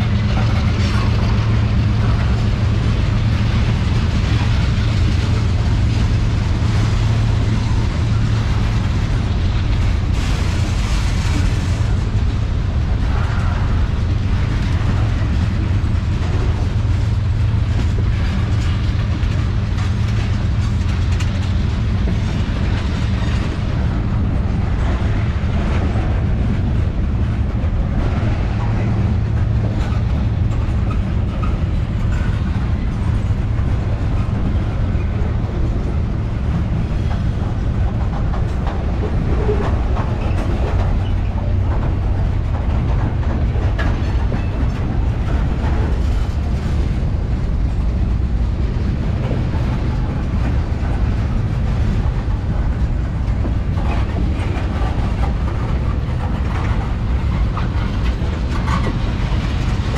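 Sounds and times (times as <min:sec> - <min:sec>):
freight train rumbling past: 0:00.0 - 0:59.9
wheels clicking over rail joints: 0:00.0 - 0:59.9.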